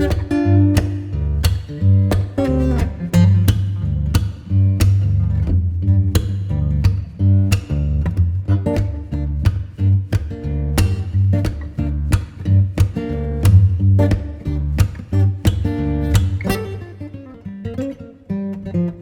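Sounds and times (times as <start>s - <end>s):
strummed acoustic guitar music: 0.0s - 19.0s.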